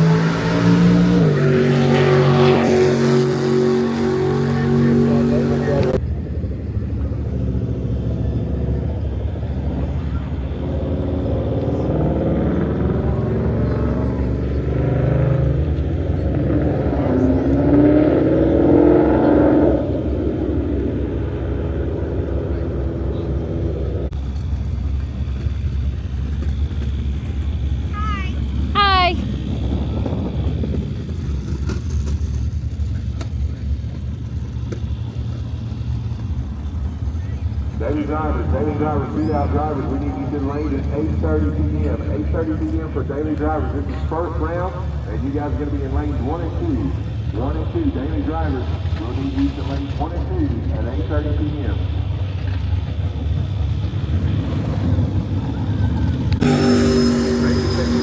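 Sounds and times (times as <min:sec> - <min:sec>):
car engine idling: 0:02.9 - 0:58.0.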